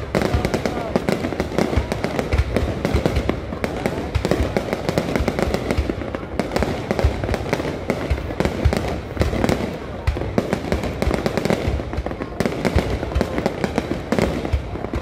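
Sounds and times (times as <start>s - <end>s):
fireworks booming and cracking: 0.0s - 15.0s
fireworks crackle: 0.0s - 15.0s.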